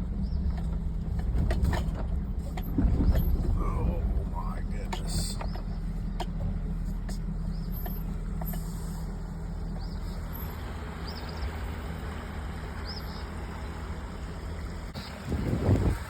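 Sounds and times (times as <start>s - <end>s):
road and wind noise: 0.0s - 16.0s
vehicle engine humming: 0.0s - 16.0s.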